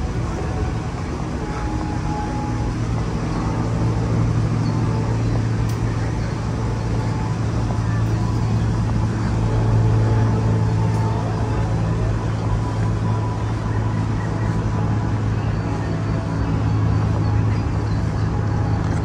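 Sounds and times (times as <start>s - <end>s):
city traffic: 0.0s - 19.0s
low machine hum: 0.0s - 19.0s.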